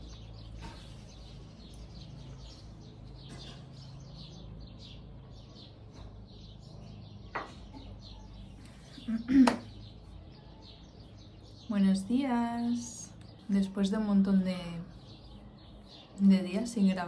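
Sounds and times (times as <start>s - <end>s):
birds singing and chirping: 0.0s - 17.0s.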